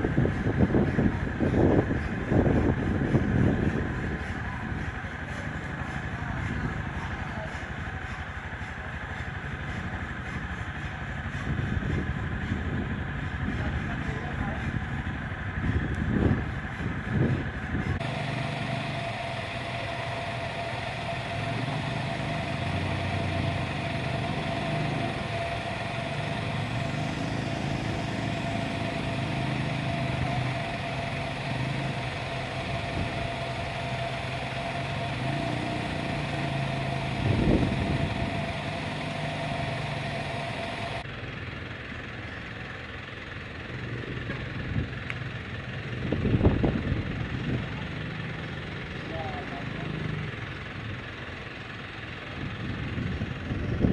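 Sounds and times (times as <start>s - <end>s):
heavy machinery engines running: 0.0s - 53.9s
thin steady whine: 0.0s - 53.9s.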